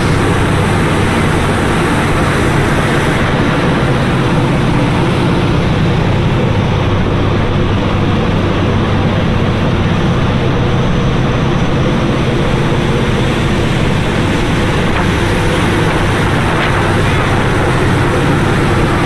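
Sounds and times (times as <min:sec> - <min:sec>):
churning boat wake: 0:00.0 - 0:19.0
ship engines droning: 0:00.0 - 0:19.0.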